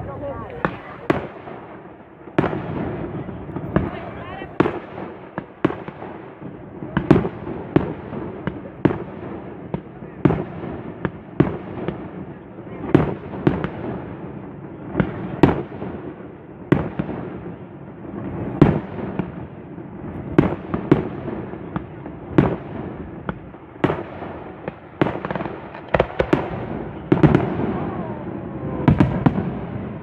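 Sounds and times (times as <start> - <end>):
firework bangs: 0.0 - 30.0.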